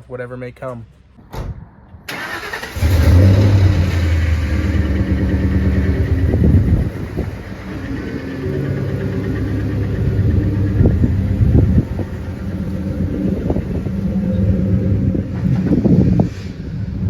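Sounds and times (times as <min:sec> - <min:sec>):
vehicle engine running: 0:02.8 - 0:17.0.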